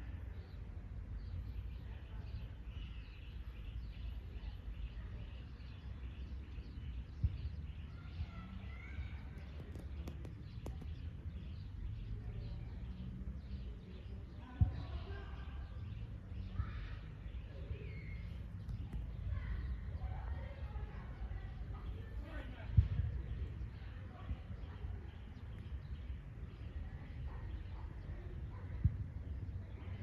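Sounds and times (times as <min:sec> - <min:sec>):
small bird chirping: 0:02.4 - 0:29.4.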